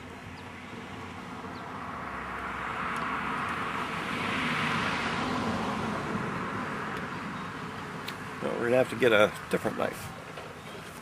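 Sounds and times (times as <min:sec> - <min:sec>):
vehicle passing by: 0:00.0 - 0:10.2.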